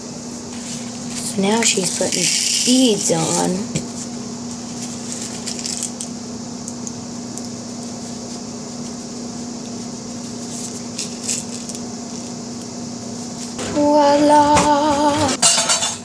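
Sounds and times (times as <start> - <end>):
fan hum and hiss: 0.0 - 16.0.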